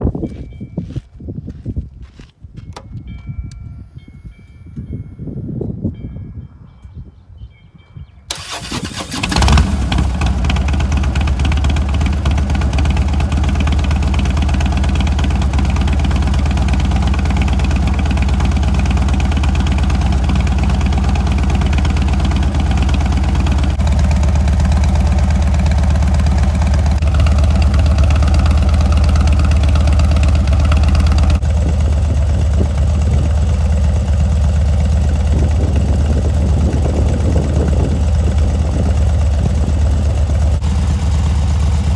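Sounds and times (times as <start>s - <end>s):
motorcycle engine idling: 8.3s - 41.9s
motorcycle engine starting: 8.3s - 41.9s.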